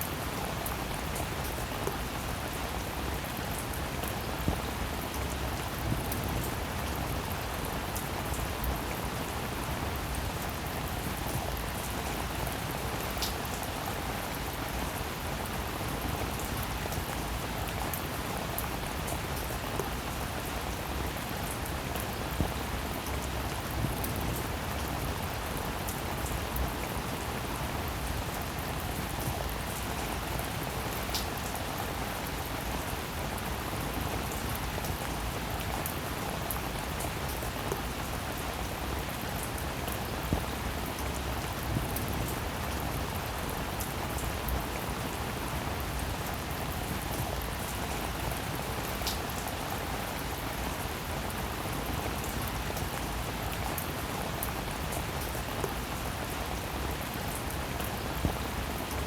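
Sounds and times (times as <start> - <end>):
raindrops striking close by: 0.0 - 59.0
steady rainfall: 0.0 - 59.0.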